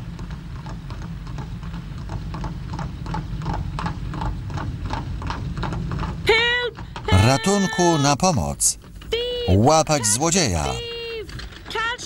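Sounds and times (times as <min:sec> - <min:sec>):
horse hooves clip-clopping: 0:00.0 - 0:12.0.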